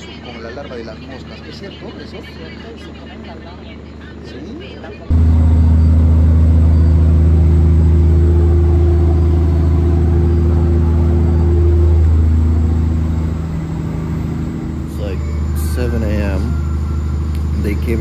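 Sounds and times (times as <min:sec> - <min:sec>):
ship engine droning: 0:00.0 - 0:18.0.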